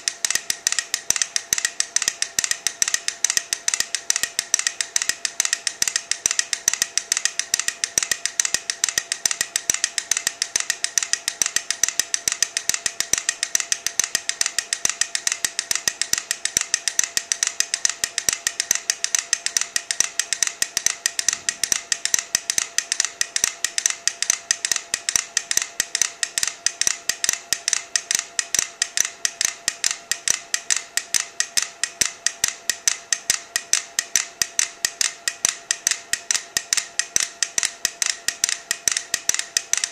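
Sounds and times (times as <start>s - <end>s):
mechanical metronomes ticking: 0.0s - 39.9s.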